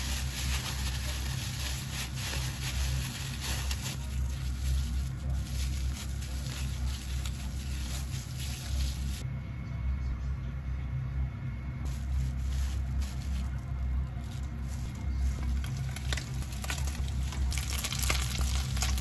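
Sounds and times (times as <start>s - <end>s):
plastic bag crinkling: 0.0s - 9.2s, 11.9s - 19.0s
steady low hum: 0.0s - 19.0s.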